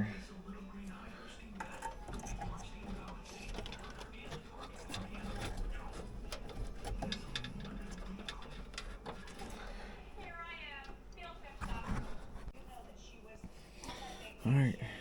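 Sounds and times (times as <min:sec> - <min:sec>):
wires rustling: 0:00.0 - 0:14.6.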